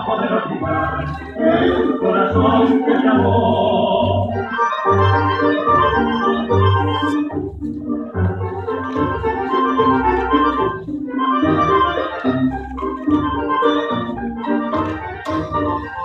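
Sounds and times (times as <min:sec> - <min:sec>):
bandoneon chords: 0:00.0 - 0:16.0.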